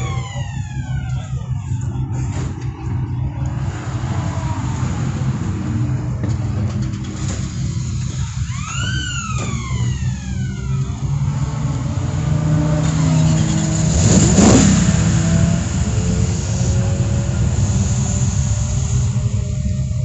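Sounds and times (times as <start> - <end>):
racing car engines: 0.0 - 20.0.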